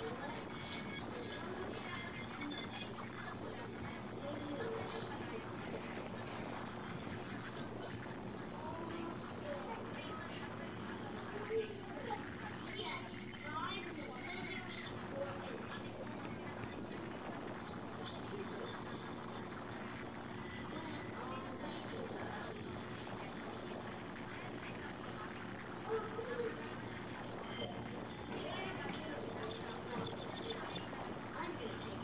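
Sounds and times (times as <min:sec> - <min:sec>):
steady high-pitched tone: 0:00.0 - 0:32.0.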